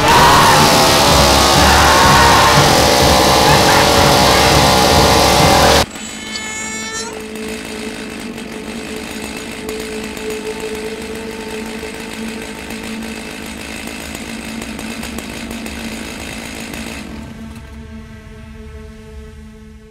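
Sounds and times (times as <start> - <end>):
chainsaw engine running steadily: 0.0 - 17.8.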